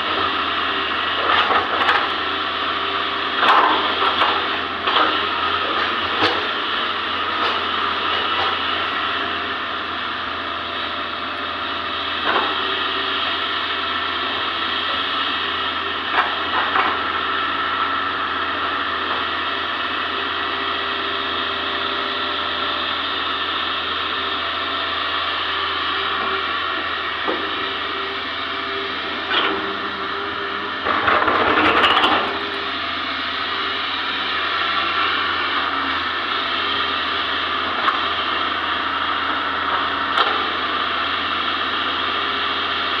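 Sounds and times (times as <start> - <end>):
excavator engine and hydraulics: 0.0 - 43.0.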